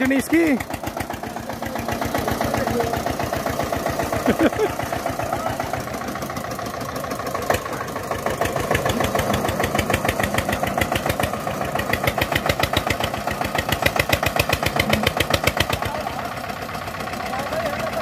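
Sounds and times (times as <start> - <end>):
tractor diesel engine chugging: 0.0 - 18.0.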